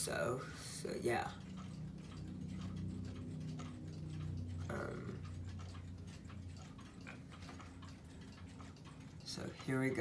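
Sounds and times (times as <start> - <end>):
low steady hum: 0.0 - 10.0
wall clock ticking: 0.0 - 10.0.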